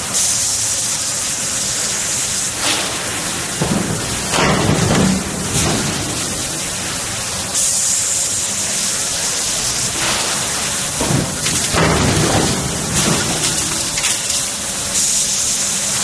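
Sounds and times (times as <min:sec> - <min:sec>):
hydraulic press hissing: 0:00.0 - 0:16.0.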